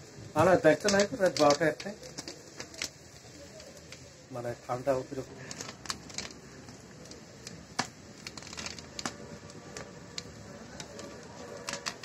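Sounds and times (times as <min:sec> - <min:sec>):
pops and crackles: 0:00.0 - 0:12.0
syrup boiling hiss: 0:00.0 - 0:12.0.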